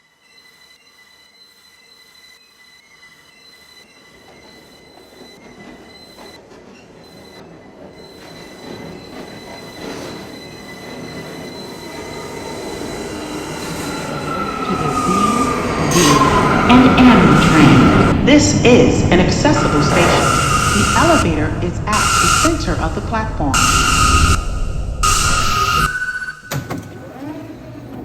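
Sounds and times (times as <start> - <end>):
train wheel squeal: 0.0 - 18.4, 19.2 - 28.0
subway train rumbling in tunnel: 3.1 - 28.0.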